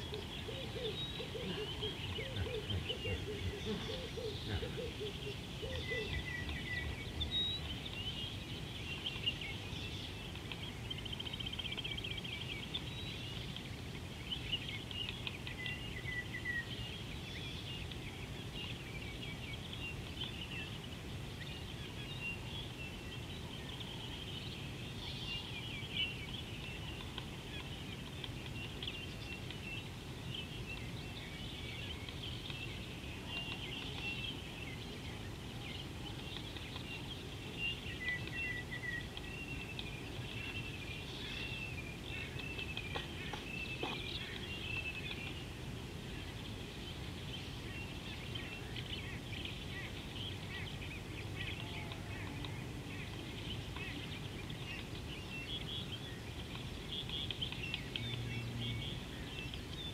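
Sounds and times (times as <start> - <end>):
wild birds calling and chirping: 0.0 - 59.9.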